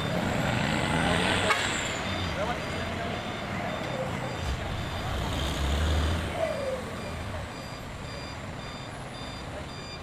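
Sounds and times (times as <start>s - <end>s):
diesel engine running low: 0.0s - 10.0s
truck reversing alarm beeping: 0.0s - 10.0s.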